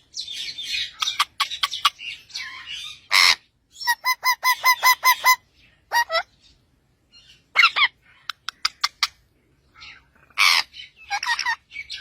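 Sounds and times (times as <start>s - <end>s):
parrot chattering and squawking: 0.3s - 6.3s, 7.4s - 9.2s, 9.8s - 12.0s.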